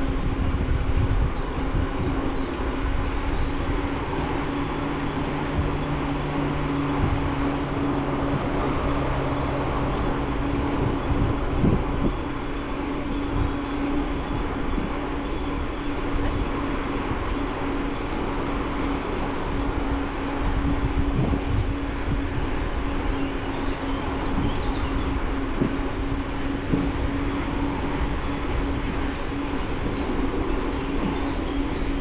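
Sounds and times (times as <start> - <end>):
bicycle tyres rolling: 0.0 - 32.0
lower hum: 0.0 - 32.0
steady hum: 0.0 - 32.0
wind rushing over microphone: 0.0 - 32.0.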